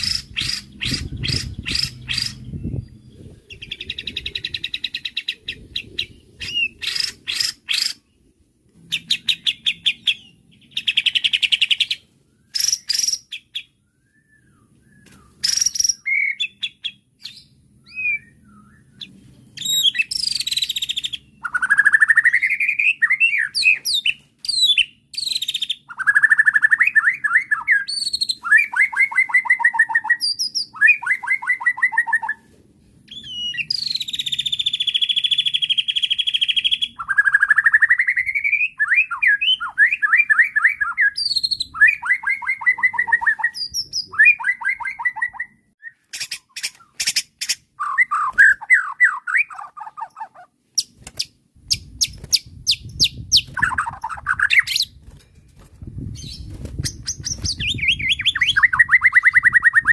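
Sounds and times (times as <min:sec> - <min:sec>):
bird singing varied song: 0:00.0 - 0:32.5, 0:33.1 - 0:55.2, 0:56.0 - 0:59.9.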